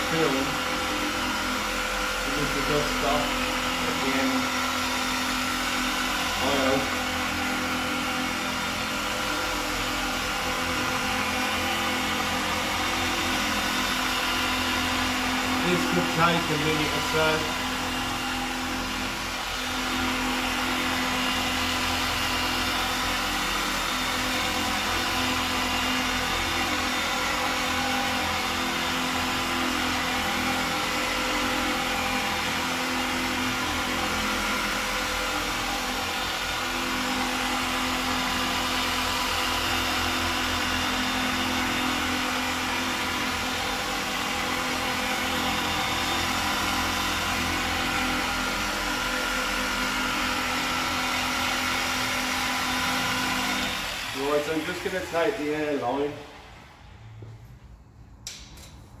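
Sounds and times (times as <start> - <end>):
machine polisher motor humming: 0.0 - 57.6.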